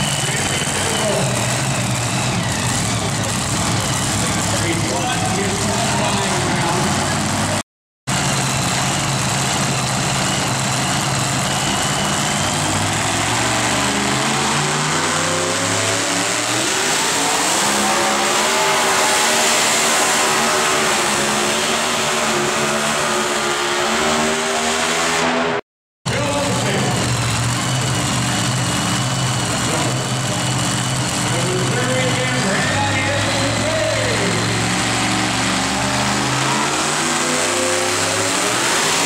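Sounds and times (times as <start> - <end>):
supercharged engine revving: 0.0 - 39.0.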